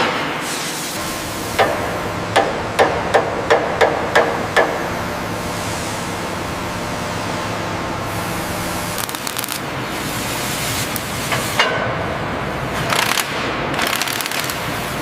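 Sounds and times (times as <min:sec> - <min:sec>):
industrial machinery noise: 0:00.0 - 0:15.0.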